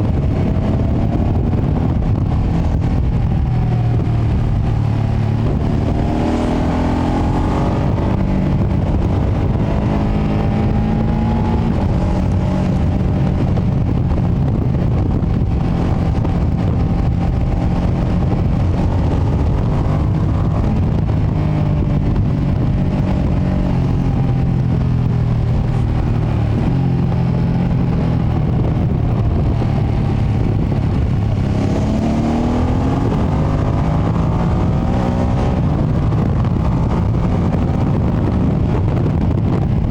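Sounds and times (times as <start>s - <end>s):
motorcycle engine accelerating: 0.0s - 39.9s
wind rumble on microphone: 0.0s - 39.9s.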